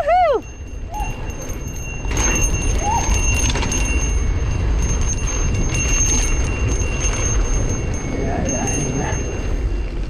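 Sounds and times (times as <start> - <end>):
bike rattling: 0.0 - 10.0
wind buffeting microphone: 0.0 - 10.0.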